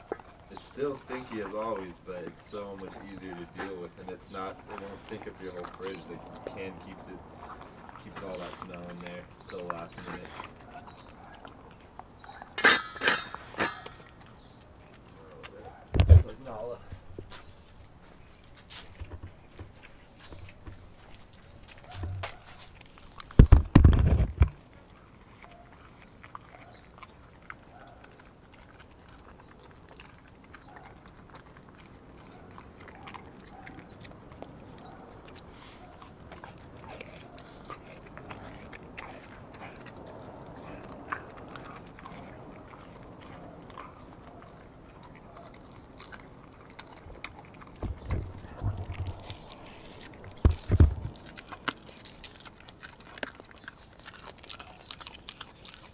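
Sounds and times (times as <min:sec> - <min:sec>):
dog chewing and licking meat: 0:00.0 - 0:55.9.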